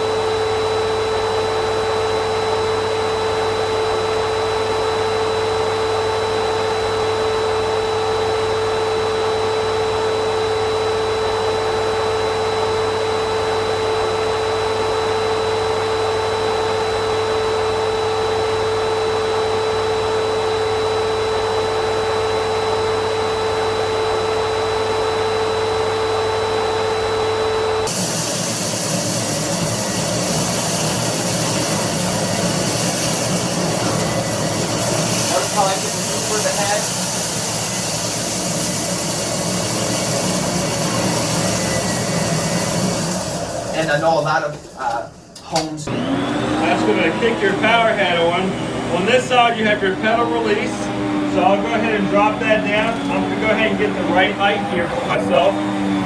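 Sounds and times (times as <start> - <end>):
vacuum cleaner motor whine: 0.0 - 44.7, 45.6 - 56.0.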